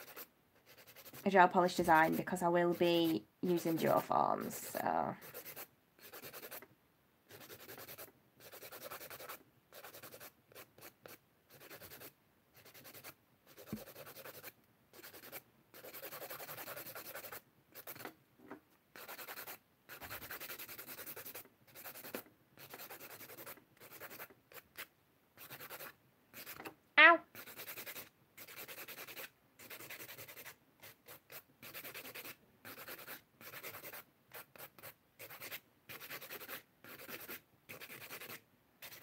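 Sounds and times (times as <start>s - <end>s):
nail file rasping on nails: 0.0s - 1.3s, 1.9s - 6.7s, 7.3s - 18.1s, 19.0s - 26.7s, 27.3s - 39.0s.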